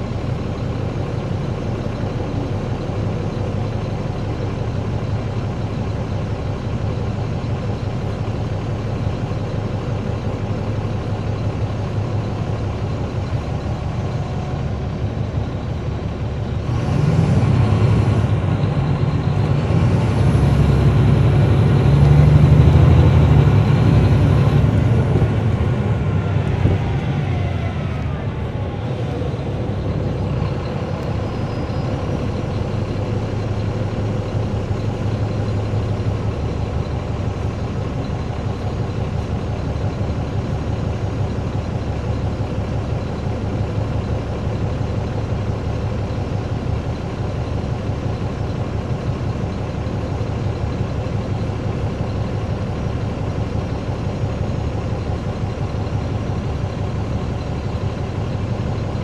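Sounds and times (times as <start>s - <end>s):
bus whine: 0.0s - 59.0s
diesel engine droning: 0.0s - 59.0s.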